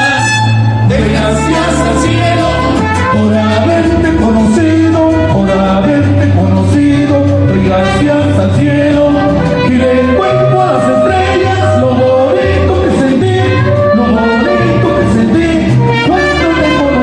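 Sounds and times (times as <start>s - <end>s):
mariachi band playing: 0.0s - 17.0s.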